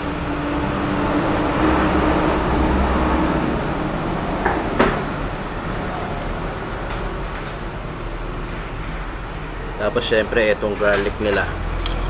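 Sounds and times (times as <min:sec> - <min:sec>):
heavy vehicle engine rumbling past: 0:00.0 - 0:12.0.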